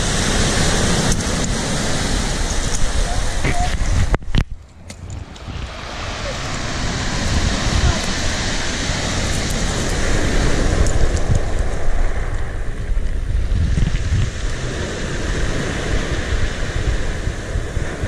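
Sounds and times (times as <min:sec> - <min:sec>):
sea waves: 0:00.0 - 0:18.0
wind buffeting microphone: 0:00.0 - 0:18.0.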